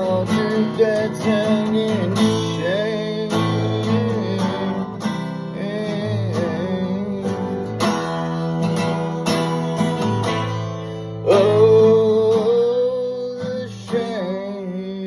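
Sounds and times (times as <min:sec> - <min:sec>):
person singing: 0:00.0 - 0:09.8, 0:11.2 - 0:15.0
acoustic guitar strumming: 0:00.0 - 0:15.0.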